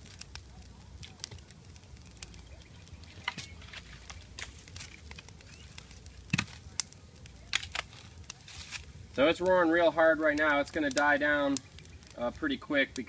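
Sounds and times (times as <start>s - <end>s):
kindling fire crackling: 0.0s - 13.0s.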